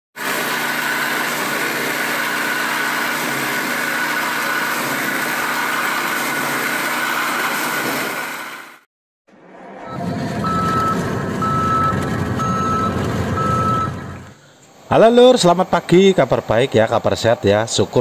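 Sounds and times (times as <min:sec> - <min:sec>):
diesel engine and hydraulics running: 0:00.2 - 0:14.9.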